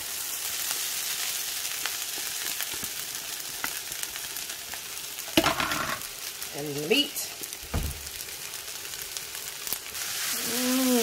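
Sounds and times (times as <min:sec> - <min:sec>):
rice sizzling in a skillet: 0:00.0 - 0:11.0.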